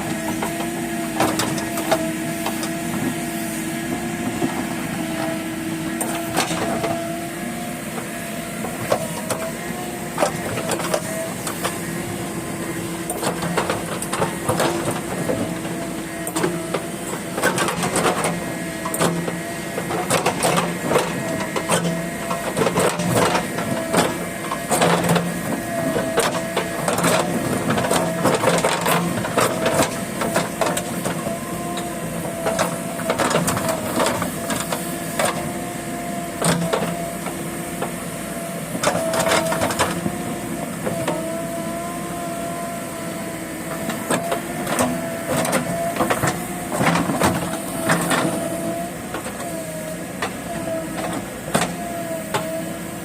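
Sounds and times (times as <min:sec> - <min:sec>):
backhoe loader engine whine: 0:00.0 - 0:53.0.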